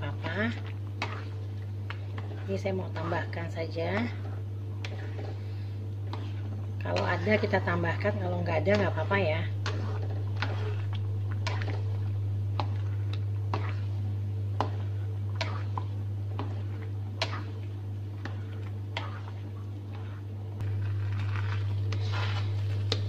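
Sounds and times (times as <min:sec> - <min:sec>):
spatula scraping and knocking wok: 0:00.0 - 0:01.4, 0:02.1 - 0:17.6, 0:18.2 - 0:23.0
steady low hum: 0:00.0 - 0:23.0.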